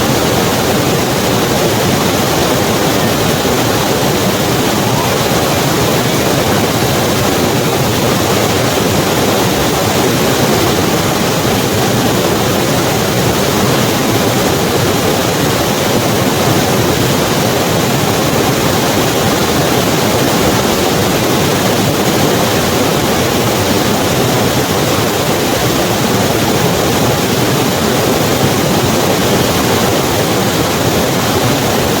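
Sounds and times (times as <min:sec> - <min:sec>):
river rushing over rocks: 0:00.0 - 0:32.0.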